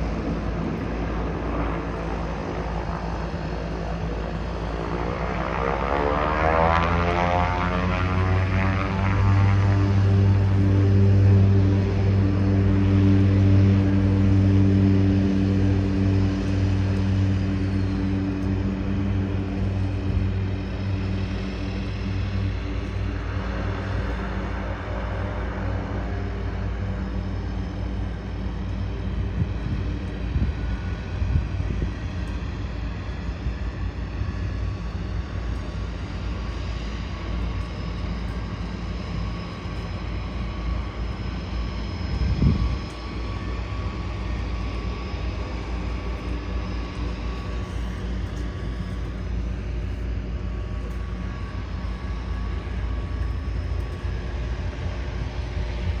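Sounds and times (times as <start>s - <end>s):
propeller engine droning: 0.0s - 56.0s.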